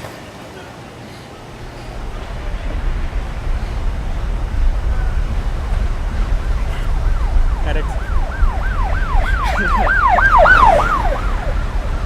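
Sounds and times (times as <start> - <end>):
wind rumbling on microphone: 1.4 - 12.0
emergency siren yelping: 1.5 - 12.0.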